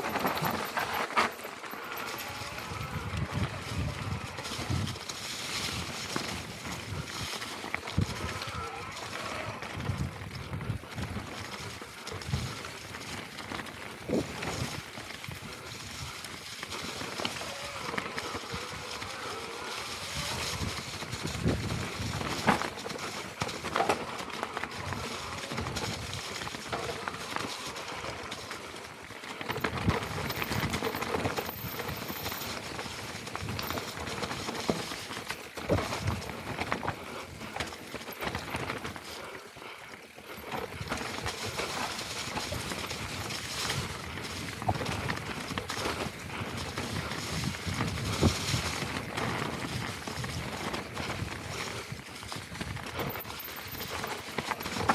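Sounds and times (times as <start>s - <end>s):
bike knocking and rattling: 0.0s - 54.9s
tyres rolling over stones: 0.0s - 54.9s.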